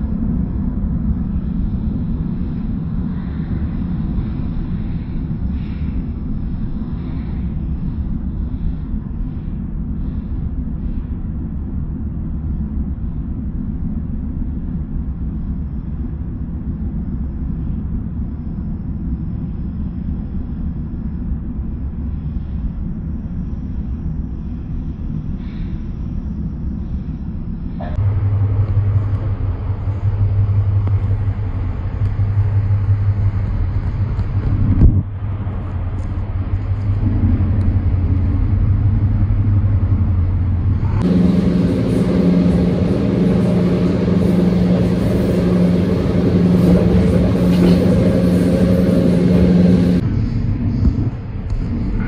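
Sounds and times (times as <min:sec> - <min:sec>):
train rumbling with low hum: 0:00.0 - 0:52.0.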